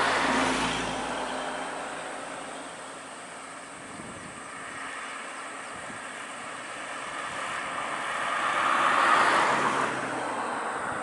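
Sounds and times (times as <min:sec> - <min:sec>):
vehicle passing by: 0:00.0 - 0:03.1, 0:04.1 - 0:11.0.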